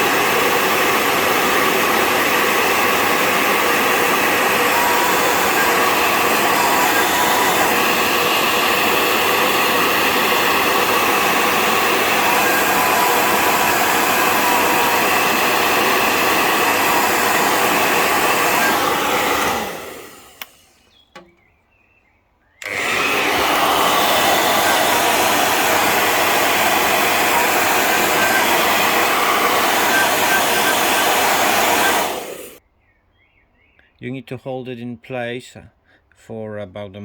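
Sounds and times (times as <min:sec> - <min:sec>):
hair dryer blowing: 0:00.0 - 0:20.8, 0:22.6 - 0:32.6.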